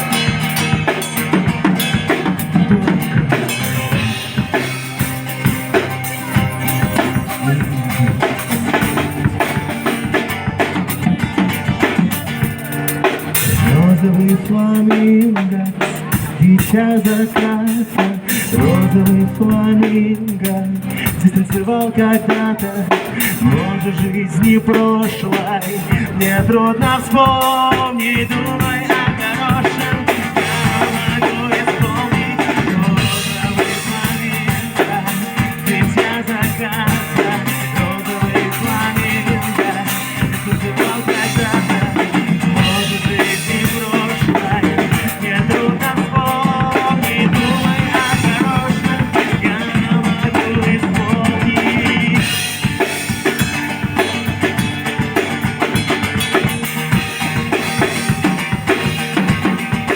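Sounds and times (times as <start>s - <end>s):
drum kit: 0.0s - 59.9s
live band playing pop-rock: 0.0s - 59.9s.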